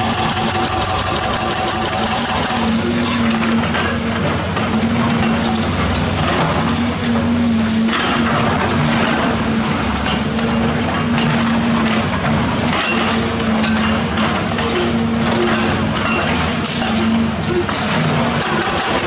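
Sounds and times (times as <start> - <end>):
excavator engine humming: 0.0 - 19.0.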